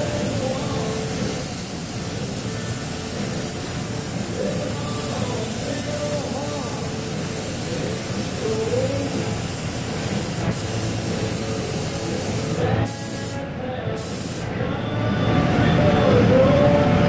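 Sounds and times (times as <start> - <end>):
paint spray gun hissing: 0.0 - 13.4, 14.0 - 14.5.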